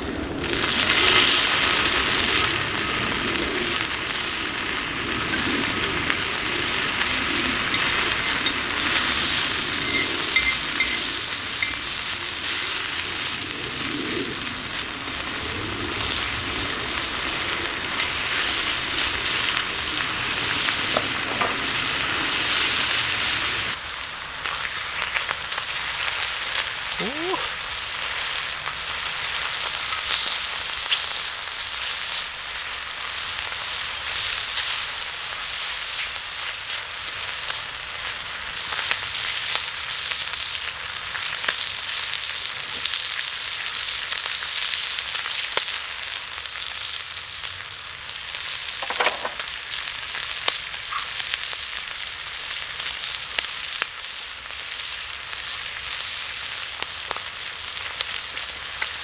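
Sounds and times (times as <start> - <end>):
meat sizzling on hot plate: 0.0 - 59.0.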